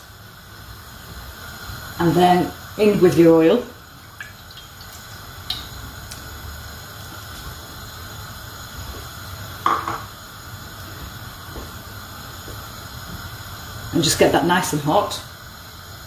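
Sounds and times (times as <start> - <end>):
hiss of hot oil in pan: 0.0 - 16.0.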